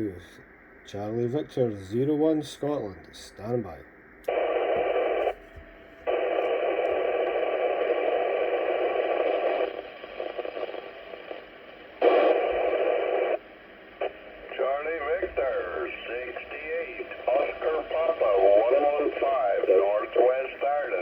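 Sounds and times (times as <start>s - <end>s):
radio static hissing: 0.0s - 21.0s.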